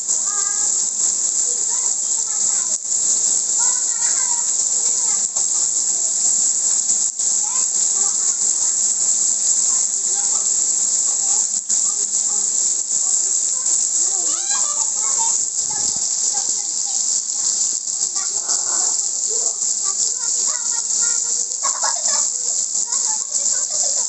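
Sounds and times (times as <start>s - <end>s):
faint children's voices: 0.0s - 24.0s
rain hissing: 0.0s - 24.0s.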